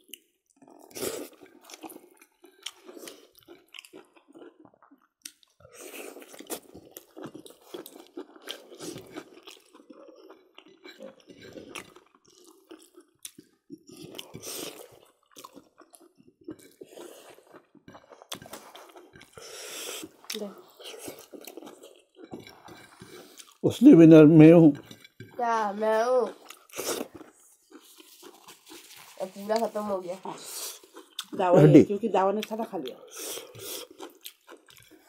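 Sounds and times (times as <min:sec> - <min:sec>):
chewing mouth noises: 0:00.0 - 0:23.7, 0:26.2 - 0:31.8, 0:32.4 - 0:35.0.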